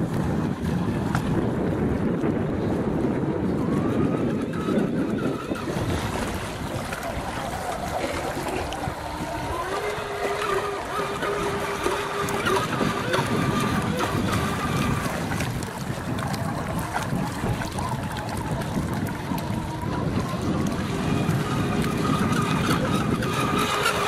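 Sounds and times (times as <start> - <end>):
model boat motor whining: 0.0 - 24.0
wind and water rushing: 0.0 - 24.0.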